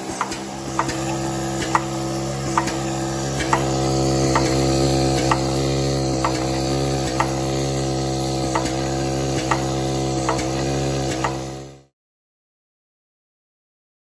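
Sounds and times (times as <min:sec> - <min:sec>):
machine mechanical hum: 0:00.0 - 0:11.9.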